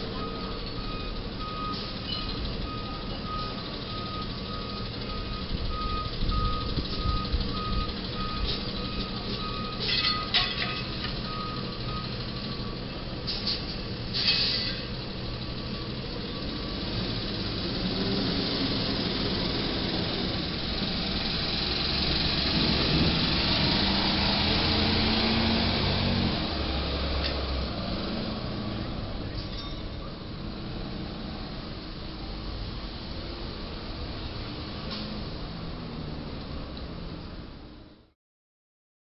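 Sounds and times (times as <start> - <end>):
truck driving past: 0.0 - 38.1.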